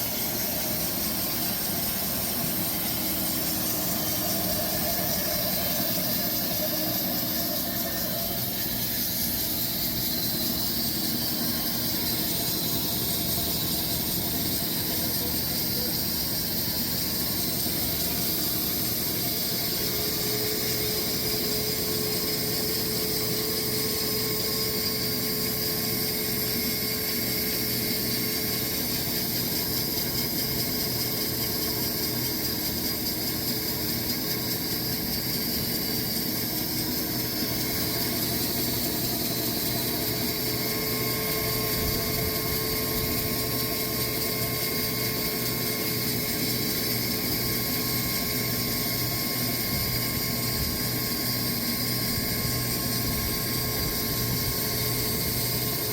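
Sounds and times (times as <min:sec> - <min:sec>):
sawmill engine and blade: 0:00.0 - 0:55.9.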